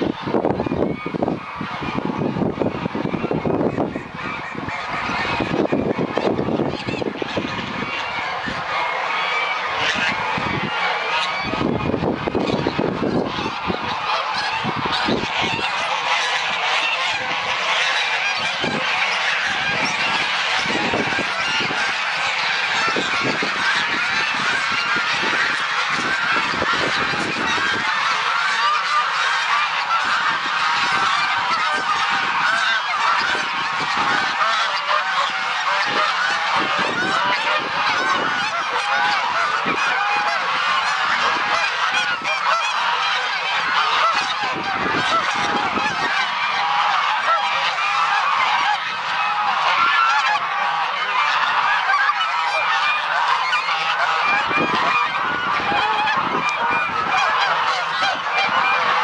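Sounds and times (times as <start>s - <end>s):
geese honking: 0.0s - 59.0s.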